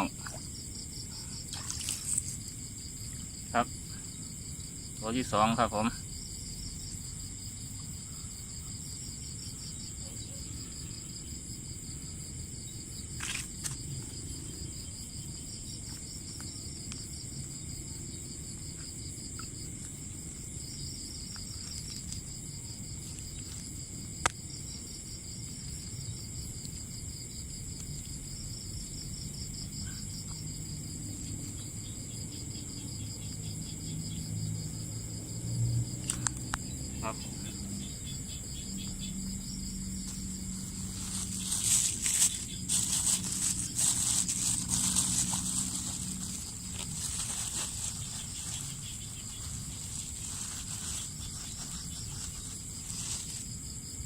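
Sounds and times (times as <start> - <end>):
crickets and insects buzzing: 0.0 - 54.0.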